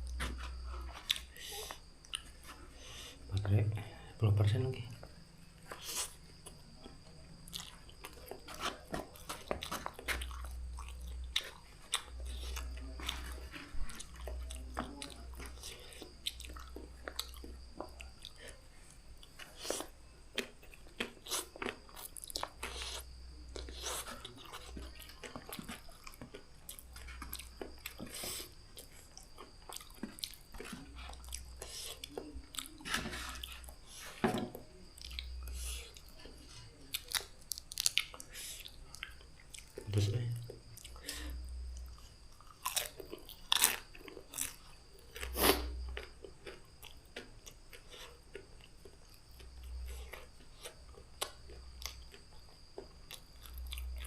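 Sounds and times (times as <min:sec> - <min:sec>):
person chewing noodles: 0:00.0 - 0:03.4, 0:05.6 - 0:34.2, 0:34.8 - 0:39.9, 0:40.6 - 0:54.0.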